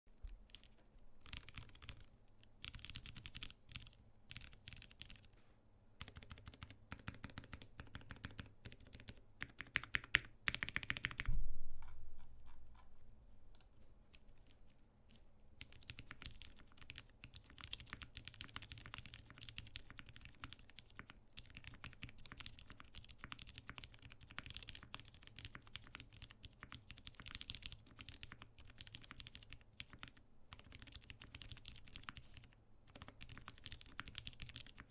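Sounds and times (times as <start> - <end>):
mechanical keyboard typing: 0.5 - 5.3, 6.0 - 11.3, 15.6 - 34.9.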